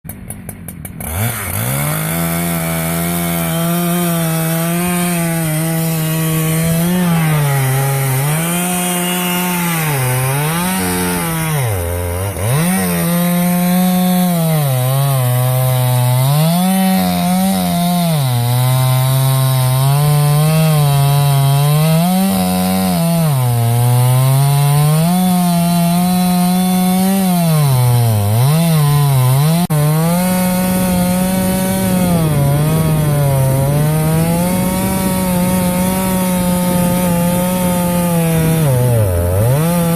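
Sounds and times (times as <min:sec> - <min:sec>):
chainsaw cutting a log: 0:00.1 - 0:39.9.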